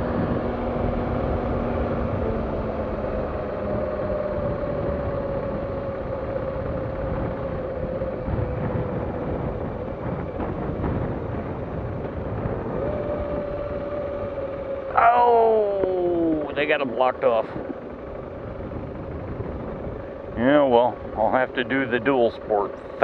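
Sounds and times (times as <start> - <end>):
road and wind noise: 0.0 - 23.0
vehicle engine running: 0.0 - 23.0.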